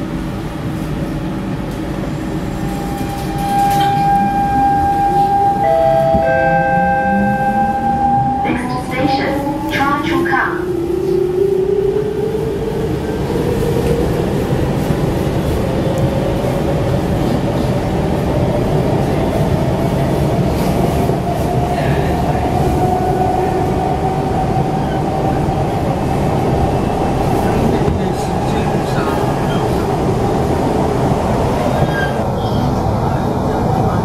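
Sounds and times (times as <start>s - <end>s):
wheels rumbling on rails: 0.0s - 34.0s.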